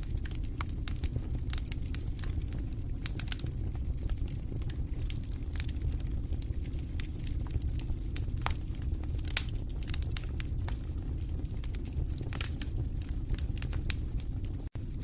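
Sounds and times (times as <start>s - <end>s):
fire crackling and popping: 0.0s - 15.0s
low rumble of fire flames: 0.0s - 15.0s.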